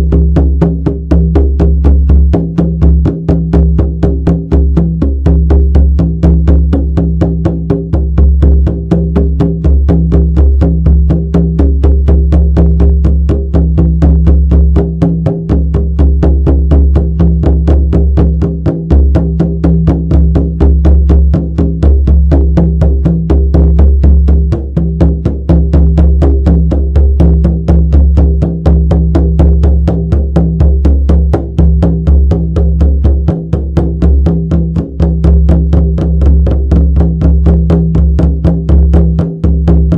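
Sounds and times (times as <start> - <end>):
frame drum beaten fast: 0.0 - 39.9.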